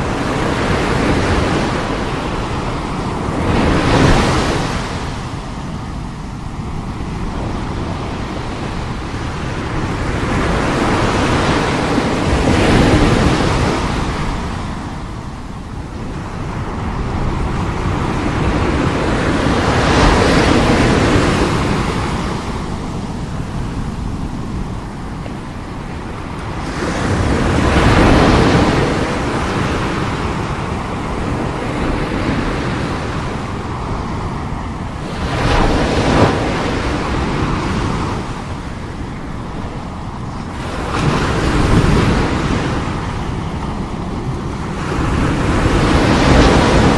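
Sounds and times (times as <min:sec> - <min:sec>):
sea waves breaking: 0:00.0 - 0:46.9.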